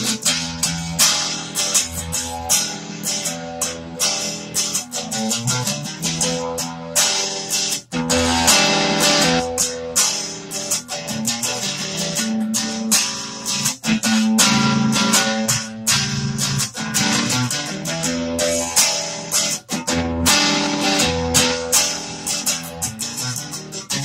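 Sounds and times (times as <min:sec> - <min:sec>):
overdriven electric guitar blues: 0:00.0 - 0:24.0.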